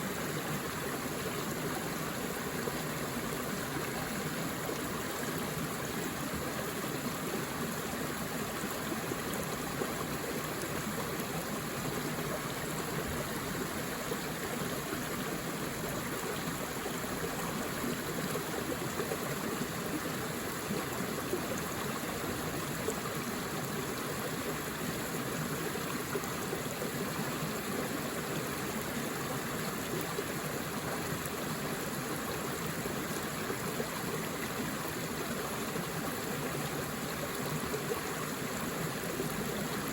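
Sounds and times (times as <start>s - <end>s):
water running over rocks: 0.0s - 39.9s.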